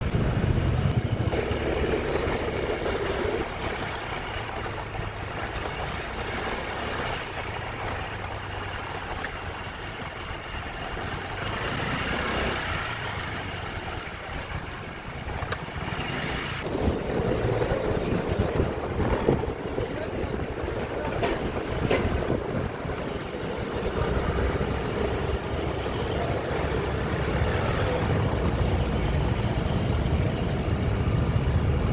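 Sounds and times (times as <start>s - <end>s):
wind noise on microphone: 0.0s - 8.5s, 14.2s - 31.9s
motorcycle engine running: 0.0s - 31.9s.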